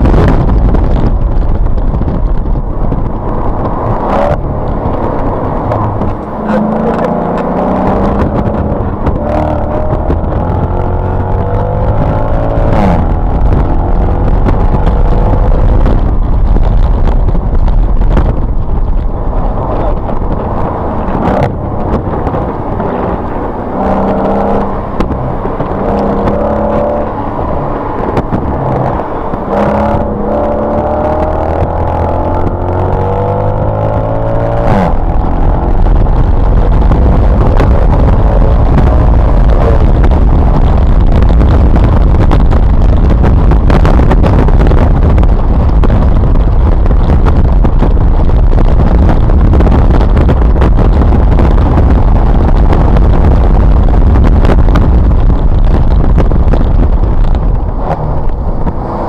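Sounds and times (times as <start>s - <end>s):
car engine accelerating: 0.0s - 59.0s
wind buffeting microphone: 0.0s - 59.0s.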